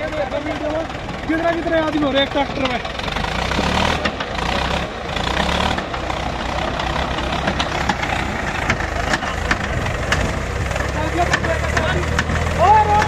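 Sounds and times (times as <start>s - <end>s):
diesel tractor engine running: 0.0s - 13.0s.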